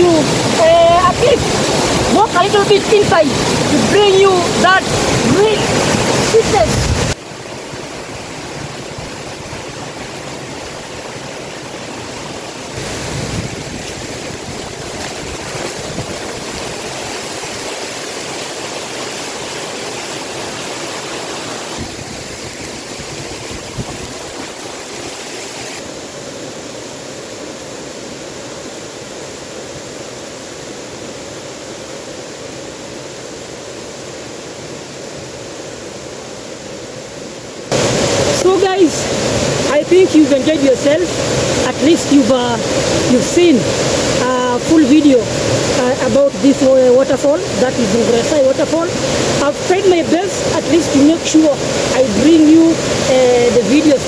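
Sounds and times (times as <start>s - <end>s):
waterfall rushing: 0.0s - 30.4s, 34.3s - 54.0s.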